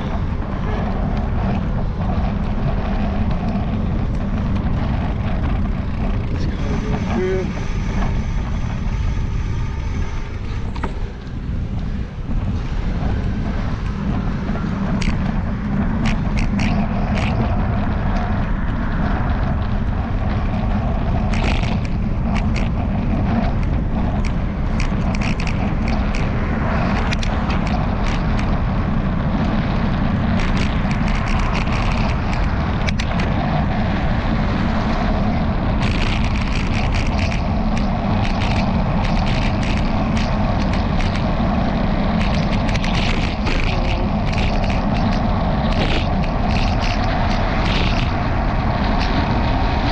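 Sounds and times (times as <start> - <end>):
road rumble: 0.0 - 49.9
wind: 0.0 - 49.9.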